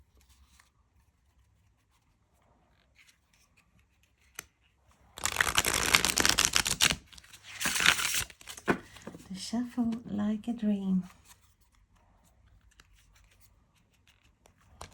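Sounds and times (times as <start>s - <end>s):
cards shuffling with crackling flicks: 0.0s - 10.1s, 11.0s - 14.9s.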